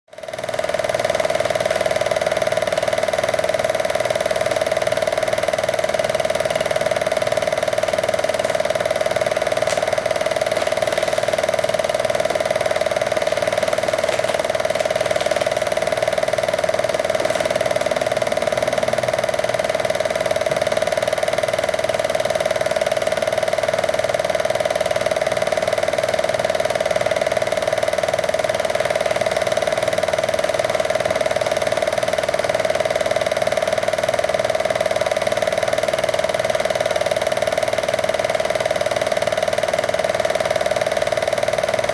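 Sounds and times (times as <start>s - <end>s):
movie projector whirring: 0.1s - 41.9s
projector film advance clatter: 0.3s - 41.9s.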